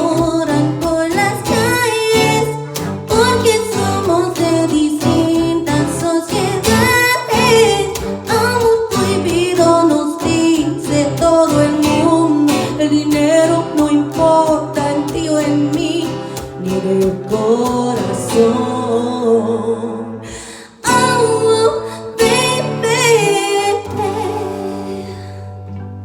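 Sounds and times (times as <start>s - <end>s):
woman singing with vibrato: 0.0s - 25.6s
guitar accompaniment: 0.0s - 26.0s.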